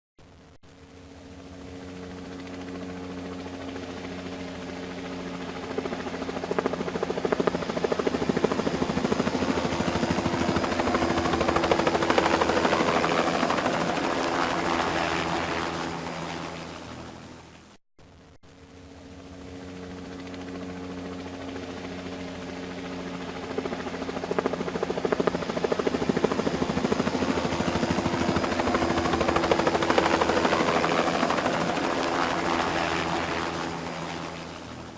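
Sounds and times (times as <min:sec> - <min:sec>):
helicopter passing overhead: 0:00.7 - 0:17.8, 0:18.5 - 0:34.9.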